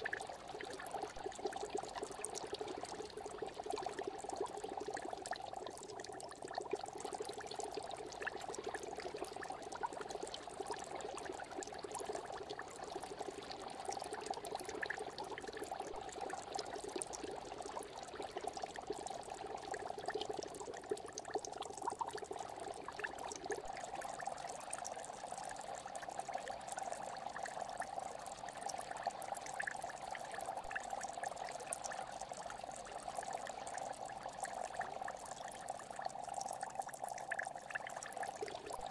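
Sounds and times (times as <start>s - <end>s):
aquarium water bubbling: 0.0s - 38.9s
water trickling: 0.0s - 38.9s.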